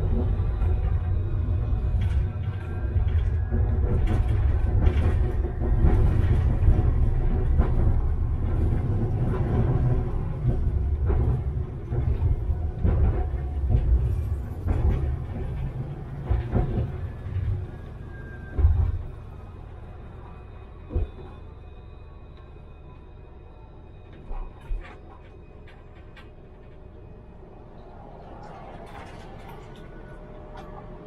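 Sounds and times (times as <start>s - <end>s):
tram rumbling on rails: 0.0s - 31.0s.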